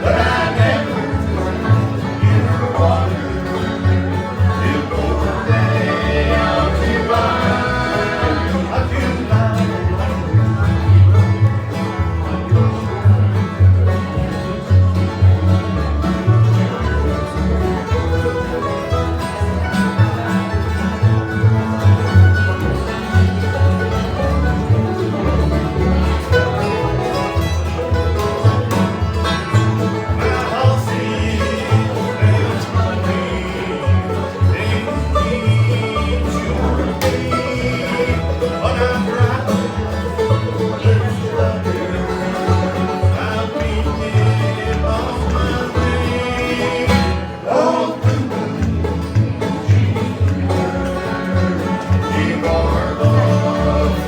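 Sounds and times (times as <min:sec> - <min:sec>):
bluegrass band playing: 0:00.0 - 0:54.0
picked banjo: 0:00.0 - 0:54.0.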